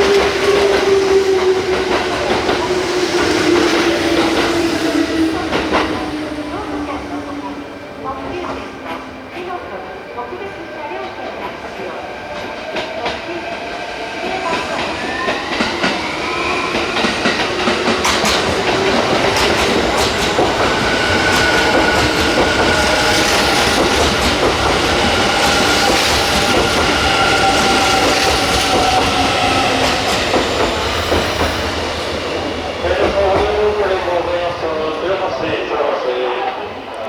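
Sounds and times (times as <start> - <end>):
train running into station: 0.0 - 37.0.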